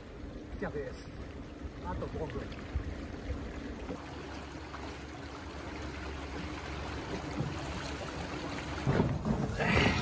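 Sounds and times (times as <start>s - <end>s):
low motor hum: 0.0s - 10.0s
water rushing along hull: 0.0s - 10.0s.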